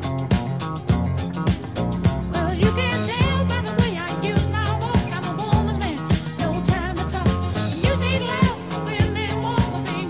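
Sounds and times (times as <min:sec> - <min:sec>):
funk song with singing: 0:00.0 - 0:10.0.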